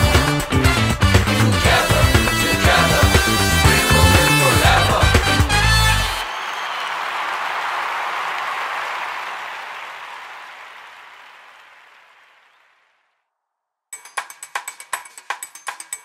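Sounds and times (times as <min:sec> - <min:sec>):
crowd applause: 0:00.0 - 0:13.1.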